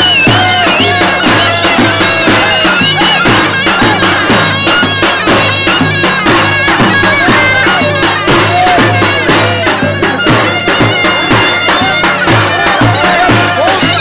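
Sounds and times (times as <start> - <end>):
drum beats: 0.0 - 14.0
shrill reed pipe melody: 0.0 - 14.0.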